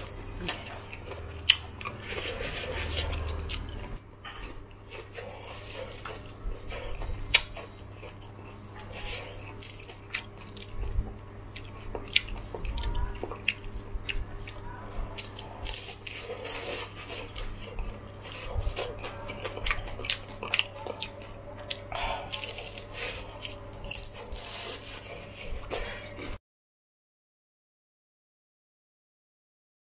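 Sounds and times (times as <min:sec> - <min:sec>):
crunchy food chewing: 0:00.0 - 0:26.4
steady low hum: 0:00.0 - 0:26.4.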